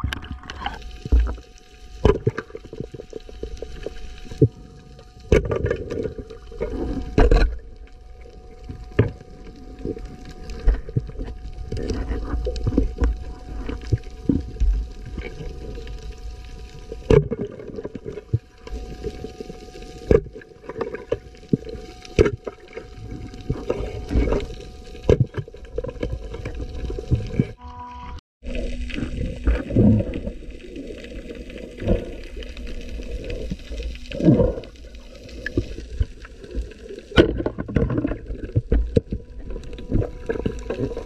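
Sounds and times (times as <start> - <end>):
muffled underwater rumble: 0.0 - 27.6, 28.4 - 41.0.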